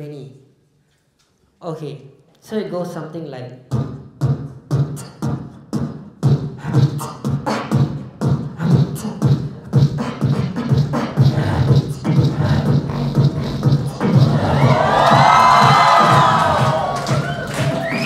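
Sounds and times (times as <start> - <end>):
beatboxing: 3.5 - 18.0.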